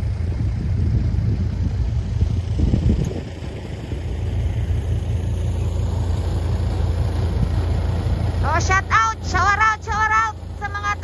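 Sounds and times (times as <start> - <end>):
machinery engine idling: 0.0 - 11.0.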